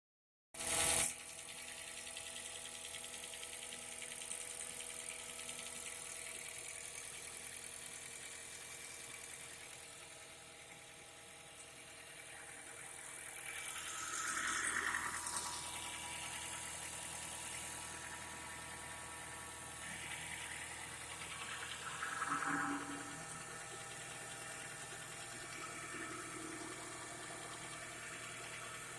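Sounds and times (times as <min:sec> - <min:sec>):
engine knock: 0:00.6 - 0:28.9
car engine idling: 0:02.9 - 0:28.9.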